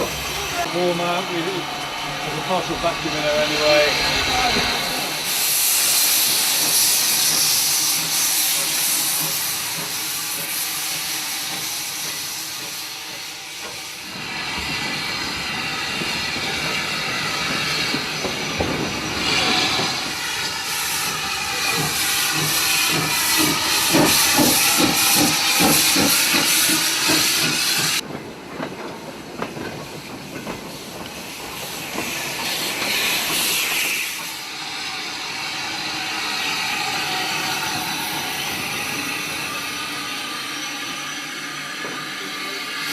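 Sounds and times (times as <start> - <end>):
regular steam beats: 0.0 - 42.9
steam locomotive hissing: 0.0 - 42.9.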